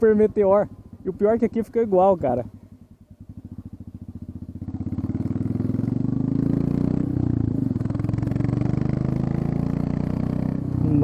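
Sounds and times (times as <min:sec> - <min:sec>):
motorcycle engine through open exhaust: 0:00.0 - 0:11.0.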